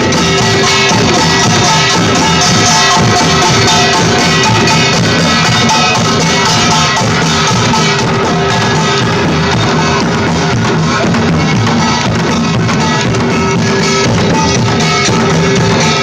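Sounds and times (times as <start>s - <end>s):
drum kit: 0.0s - 16.0s
live band music: 0.0s - 16.0s.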